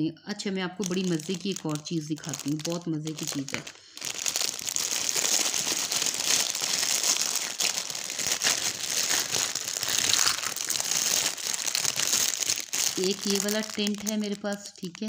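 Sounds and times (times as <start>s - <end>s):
plastic packaging rustling: 0.8s - 15.0s.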